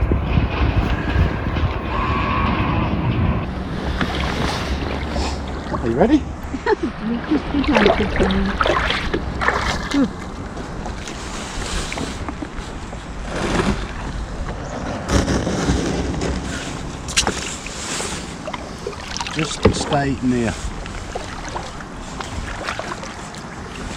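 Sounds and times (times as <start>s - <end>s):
water splashing around kayak: 0.0s - 23.9s.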